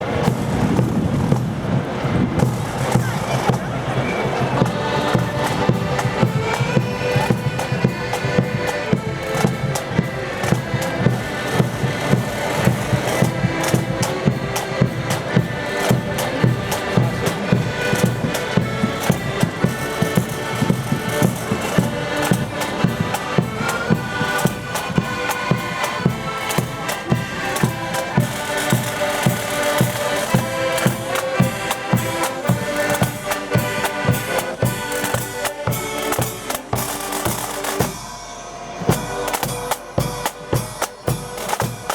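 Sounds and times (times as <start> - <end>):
side drums and bass drum beat: 0.0 - 38.2, 38.9 - 41.9
accordion band playing a march: 0.0 - 41.9.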